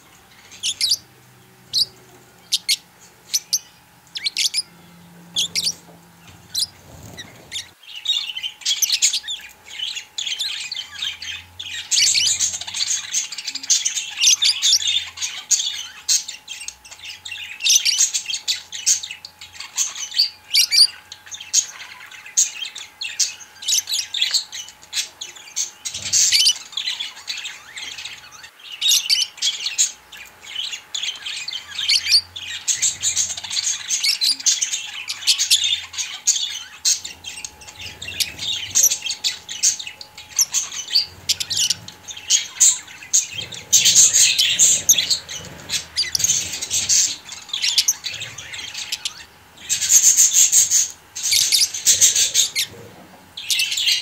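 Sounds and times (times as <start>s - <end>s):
budgerigar chirping and warbling: 0.4s - 54.0s.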